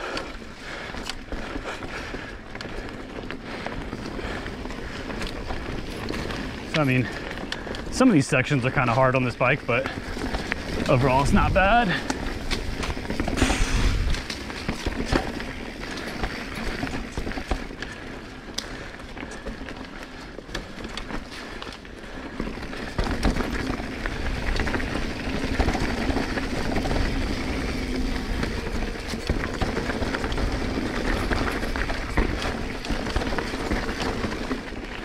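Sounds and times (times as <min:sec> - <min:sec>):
bike clicks and knocks: 0:00.0 - 0:08.0, 0:09.9 - 0:35.0
bike tyres rolling on dirt: 0:00.0 - 0:35.0.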